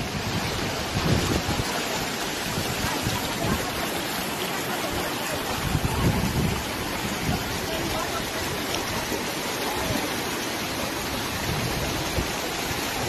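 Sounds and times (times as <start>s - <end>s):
floodwater rushing down street: 0.0s - 13.0s.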